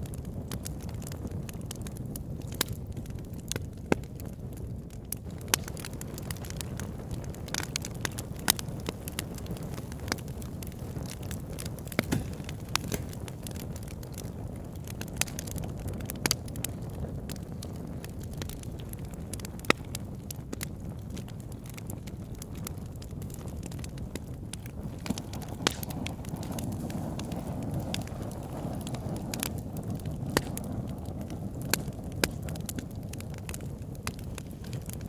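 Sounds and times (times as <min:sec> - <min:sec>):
sharp crackles and pops: 0:00.0 - 0:35.0.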